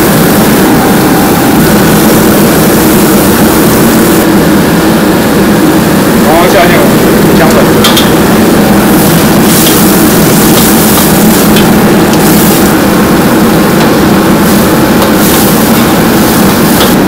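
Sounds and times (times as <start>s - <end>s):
broth sizzling and bubbling: 0.0s - 17.0s
gas burner roaring: 0.0s - 17.0s.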